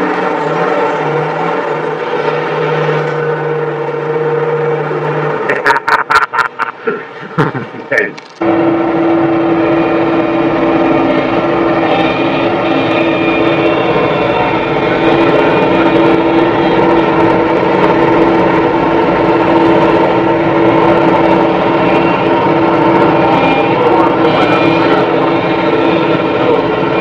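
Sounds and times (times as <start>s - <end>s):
diesel engines running: 0.0s - 27.0s.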